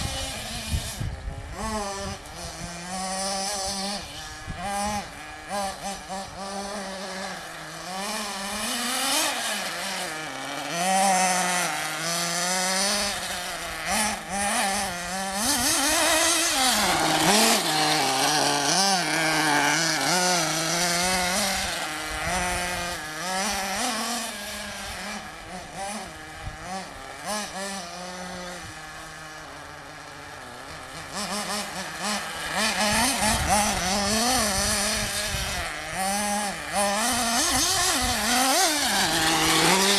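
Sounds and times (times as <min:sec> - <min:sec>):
rc buggy engine revving: 0:00.0 - 0:39.9.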